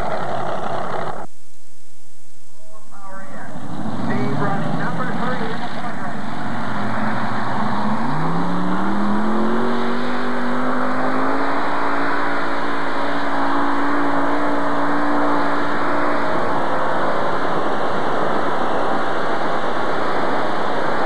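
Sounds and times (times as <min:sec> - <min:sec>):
pulling tractor engine revving: 0:00.0 - 0:01.3, 0:03.5 - 0:21.0.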